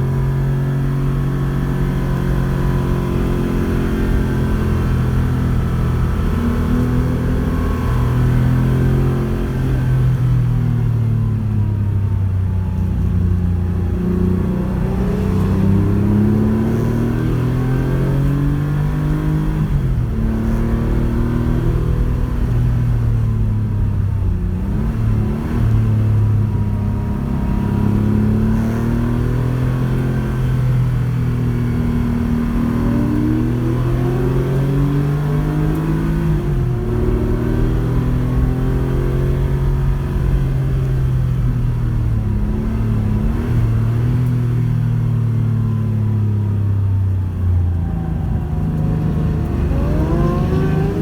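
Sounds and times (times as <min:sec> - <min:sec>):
car engine pulling hard: 0:00.0 - 0:51.0.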